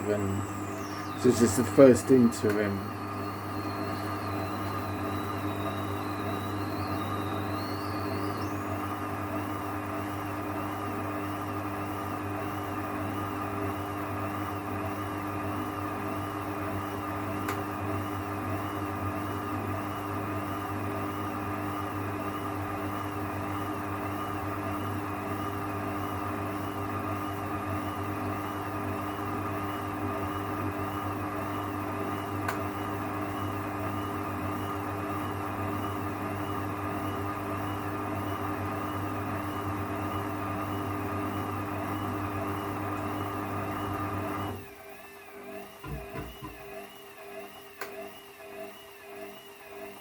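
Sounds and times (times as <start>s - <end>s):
washing machine spinning: 0.0s - 50.0s.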